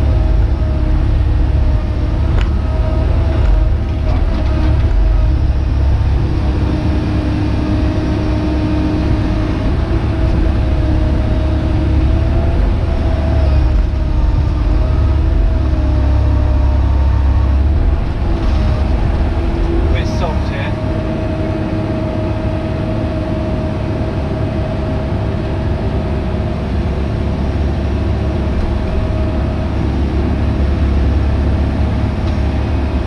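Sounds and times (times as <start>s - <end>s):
diesel engine rumbling: 0.0s - 33.0s.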